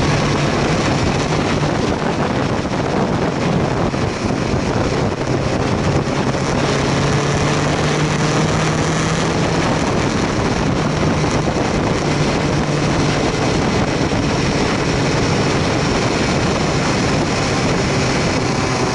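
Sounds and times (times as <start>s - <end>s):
heavy wind rush: 0.0s - 18.9s
motorcycle engine running: 0.0s - 18.9s
road noise: 0.0s - 18.9s.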